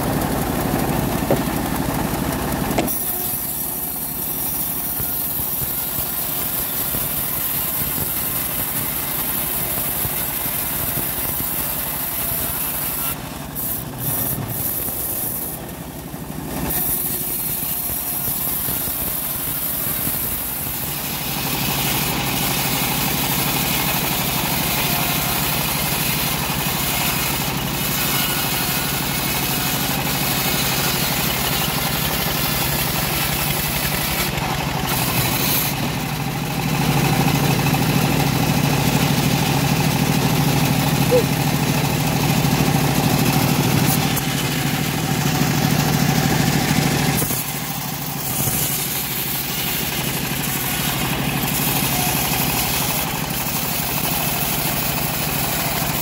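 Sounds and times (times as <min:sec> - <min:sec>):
band sawmill sawing wood: 0:00.0 - 0:56.0.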